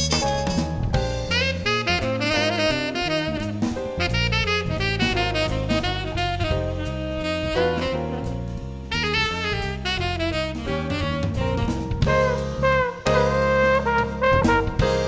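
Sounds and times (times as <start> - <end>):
bass line: 0.0 - 15.0
drum kit: 0.0 - 15.0
saxophone melody: 0.0 - 15.0.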